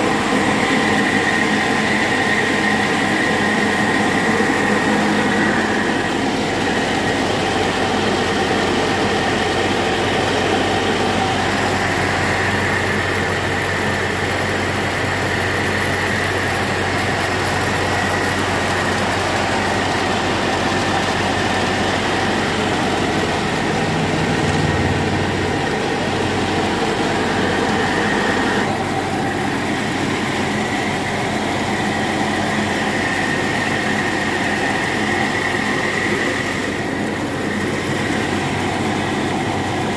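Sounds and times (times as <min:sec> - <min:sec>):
high steady whine: 0:00.0 - 0:39.9
tractor engine running mill: 0:00.0 - 0:39.9.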